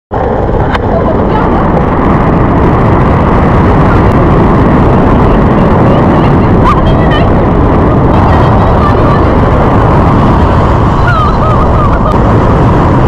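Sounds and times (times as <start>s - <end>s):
paramotor engine and propeller: 0.1s - 13.0s
wind buffeting microphone: 0.1s - 13.0s.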